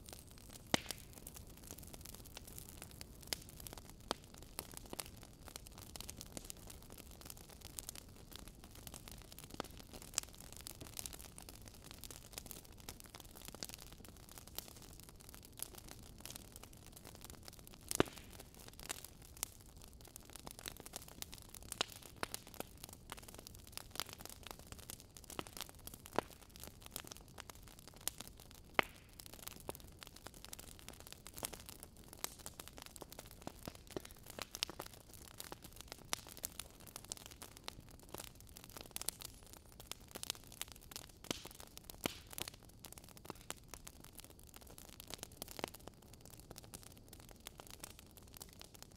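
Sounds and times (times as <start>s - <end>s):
fireplace fire crackling: 0.0s - 48.9s.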